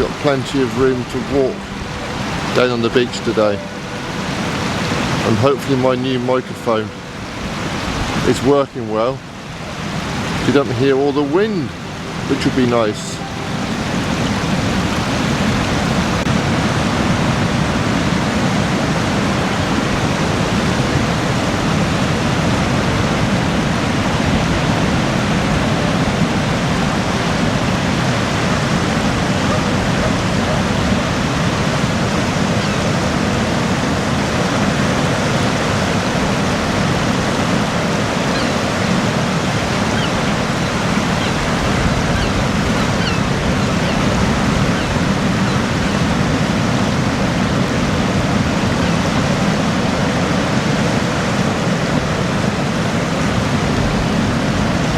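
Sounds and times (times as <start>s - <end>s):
water rushing on beach: 0.0s - 54.9s.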